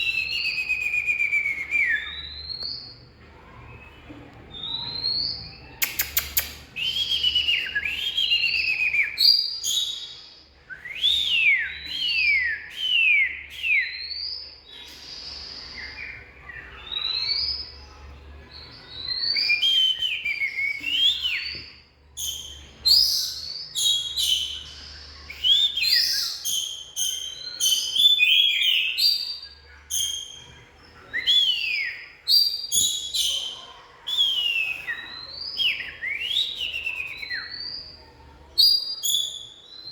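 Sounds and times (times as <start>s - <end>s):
bird singing whistled notes: 0.0s - 3.0s, 4.5s - 17.8s, 18.8s - 39.9s.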